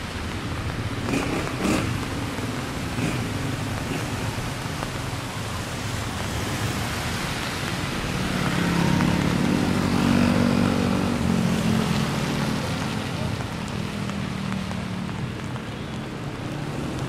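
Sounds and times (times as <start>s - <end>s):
rain hiss: 0.0s - 17.0s
road traffic: 0.0s - 17.0s
vehicle engine: 1.0s - 17.0s.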